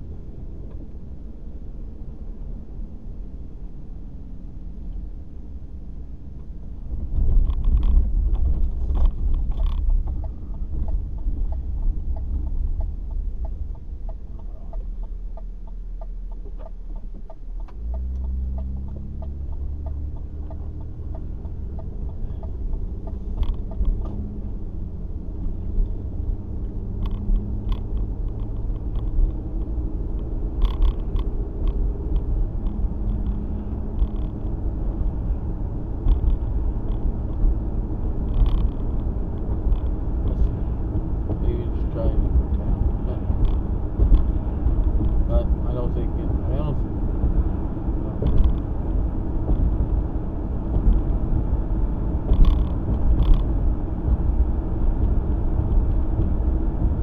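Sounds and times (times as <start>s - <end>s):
car engine and road noise: 0.0s - 57.0s
quick regular ticks: 7.3s - 24.2s, 26.9s - 50.0s, 50.6s - 57.0s.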